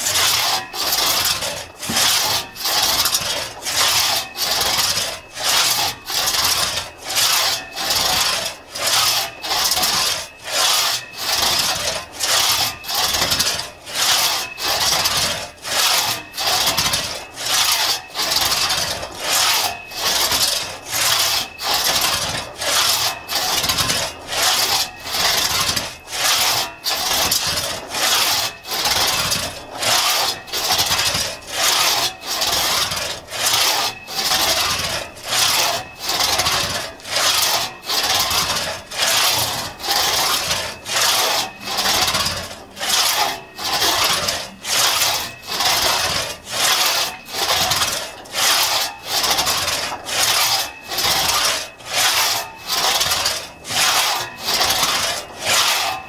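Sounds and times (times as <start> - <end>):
hand saw rasping through log: 0.0 - 56.0.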